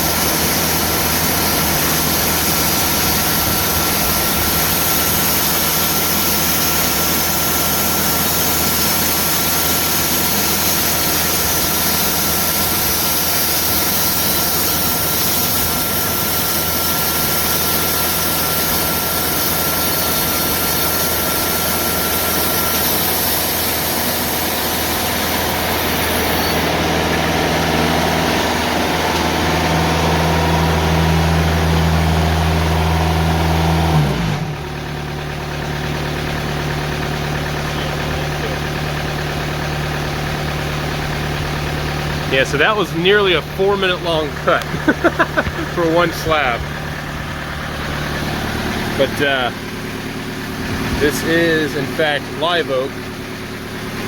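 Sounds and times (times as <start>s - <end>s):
bandsaw blade cutting wood: 0.0s - 34.6s, 36.6s - 54.0s
diesel engine running: 0.0s - 54.0s.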